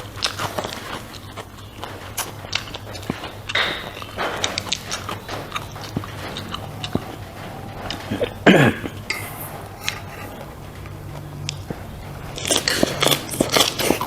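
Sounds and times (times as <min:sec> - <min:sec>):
chewing and biting food: 0:00.0 - 0:14.0.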